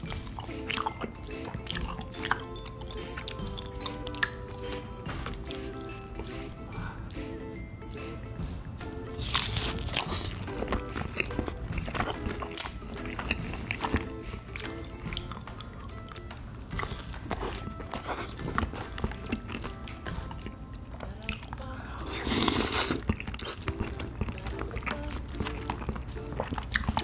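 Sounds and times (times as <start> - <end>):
biting and chewing: 0.0 - 6.6, 8.7 - 27.0
soft background music: 0.0 - 27.0.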